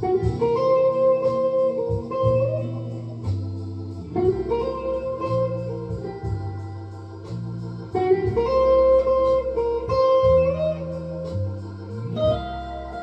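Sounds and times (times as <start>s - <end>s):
electric guitar playing slow lead: 0.0s - 13.0s.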